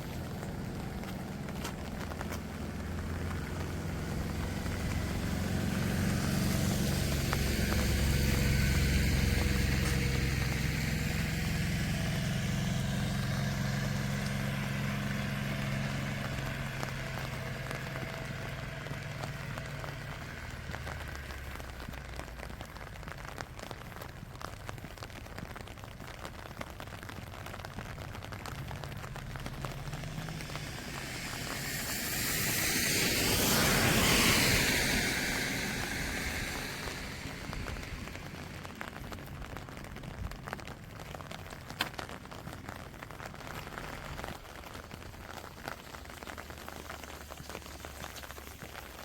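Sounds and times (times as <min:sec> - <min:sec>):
vehicle passing on wet road: 0:00.0 - 0:49.0.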